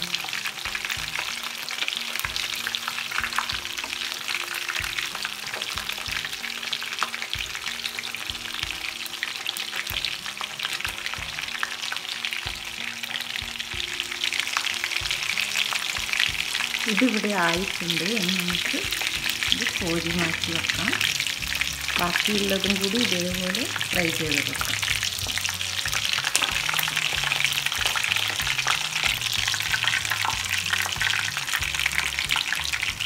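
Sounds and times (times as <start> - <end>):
chicken frying in oil: 0.0 - 33.0.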